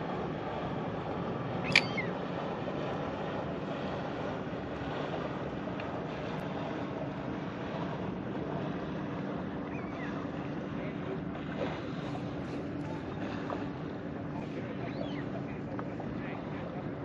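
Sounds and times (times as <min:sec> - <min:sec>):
water lapping around kayak: 0:00.0 - 0:17.0.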